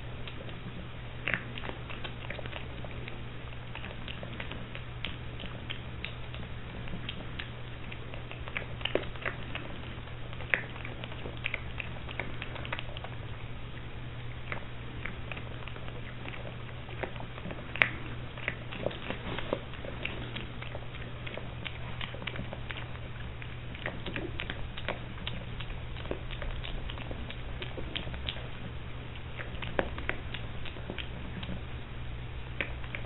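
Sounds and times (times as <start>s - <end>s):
piglet crunching food pellets: 0.0s - 33.0s
steady low hum: 0.0s - 33.0s.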